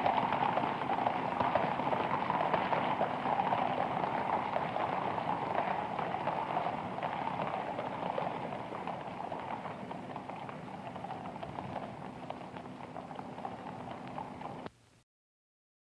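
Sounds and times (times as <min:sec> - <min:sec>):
horse hoof clops: 0:00.0 - 0:14.7.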